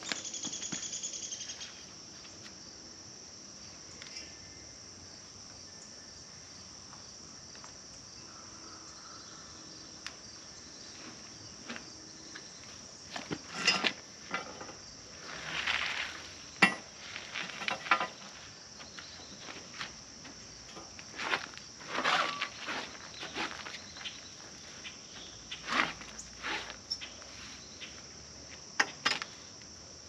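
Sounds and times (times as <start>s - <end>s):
insect chirring: 0.0s - 30.0s.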